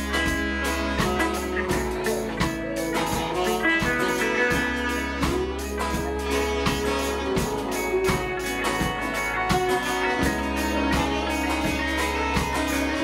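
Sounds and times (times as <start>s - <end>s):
acoustic guitar strumming: 0.0s - 13.0s
bending melody note: 0.0s - 13.0s
live band playing: 0.0s - 13.0s.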